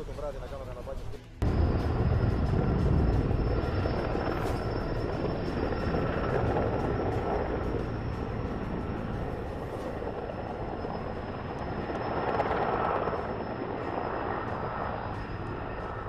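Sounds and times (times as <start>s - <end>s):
helicopter rotor and engine rumble: 0.0s - 16.0s
thin high whine: 1.4s - 16.0s.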